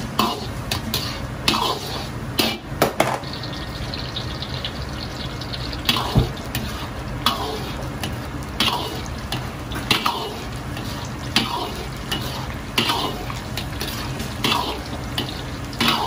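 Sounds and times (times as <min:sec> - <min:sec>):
ladle scraping wok: 0:00.0 - 0:02.7, 0:05.8 - 0:16.0
garlic sizzling in oil: 0:00.0 - 0:16.0
gas burner rumble: 0:00.0 - 0:16.0.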